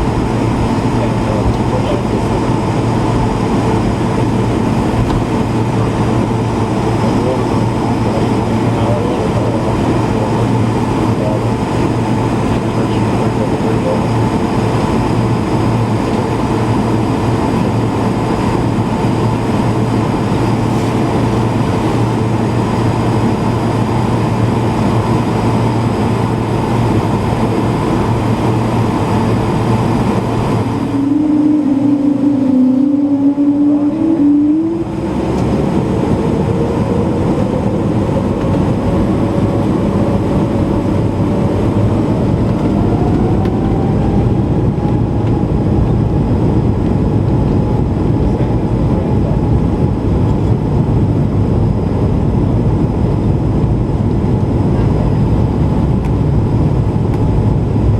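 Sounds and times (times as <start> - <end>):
jet engine cabin drone: 0.0 - 57.9
low hum: 0.0 - 57.9
rising whine: 0.0 - 57.9.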